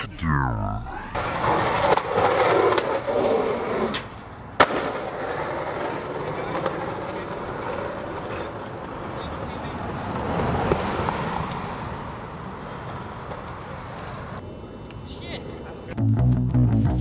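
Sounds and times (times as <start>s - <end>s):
skateboard wheels rolling on concrete: 1.2s - 16.0s.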